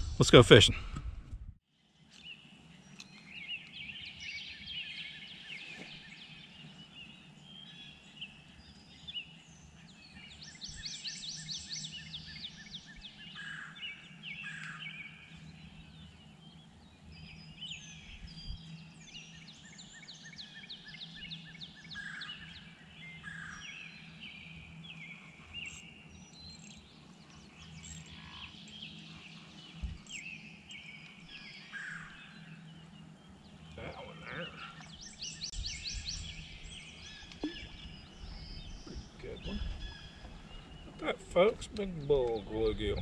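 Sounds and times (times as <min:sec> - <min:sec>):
songbirds singing and chirping: 0:01.7 - 0:43.0.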